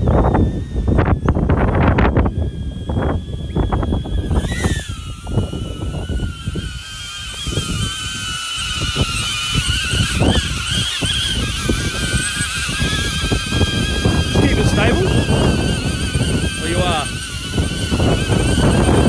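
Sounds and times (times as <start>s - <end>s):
drone propellers whining: 0.0s - 19.0s
wind buffeting microphone: 0.0s - 19.0s.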